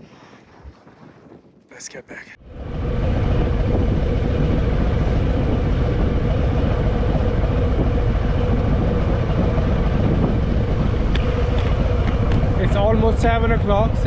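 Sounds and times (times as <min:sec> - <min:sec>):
motorcycle engine rumbling: 0:02.4 - 0:14.0.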